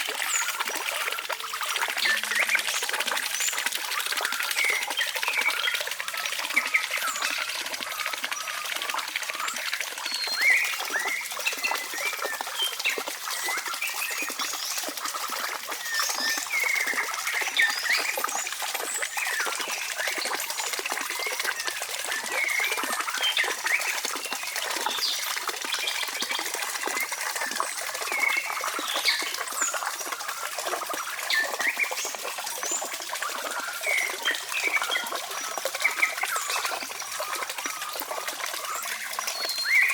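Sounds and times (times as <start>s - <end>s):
wet trickling: 0.0s - 39.9s.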